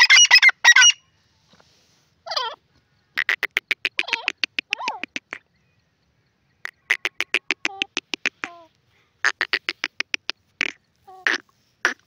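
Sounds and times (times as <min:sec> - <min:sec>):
bird calling sharp notes: 0:00.0 - 0:01.1, 0:02.3 - 0:05.8, 0:06.5 - 0:12.0.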